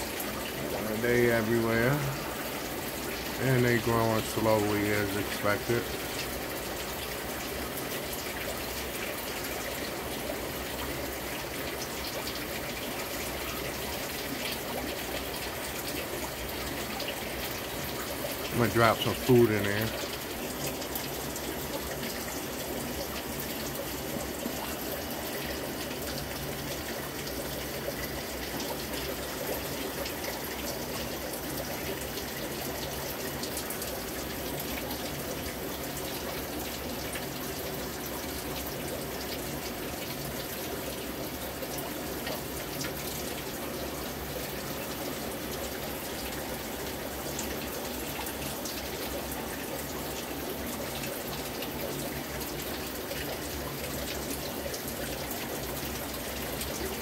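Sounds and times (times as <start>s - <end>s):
aquarium filter running: 0.0s - 57.0s
moving water in tank: 0.0s - 57.0s.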